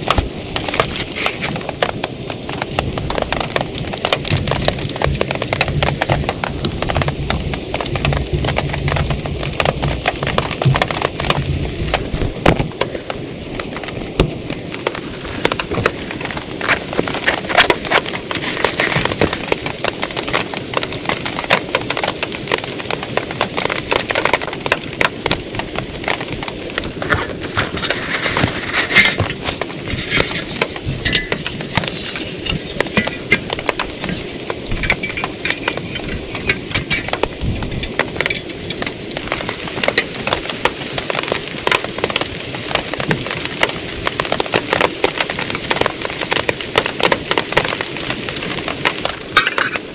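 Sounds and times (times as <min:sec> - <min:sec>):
heavy rain on a tent: 0:00.0 - 0:49.9.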